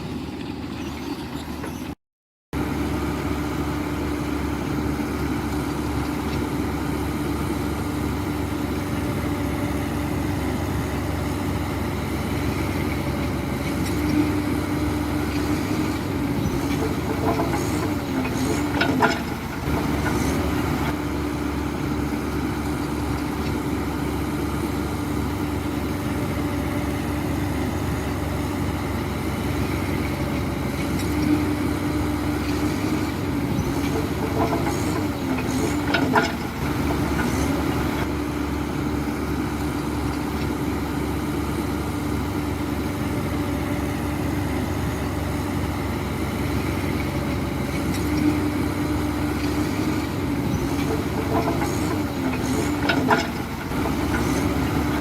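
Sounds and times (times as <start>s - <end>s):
heavy diesel engine running: 2.6s - 55.0s.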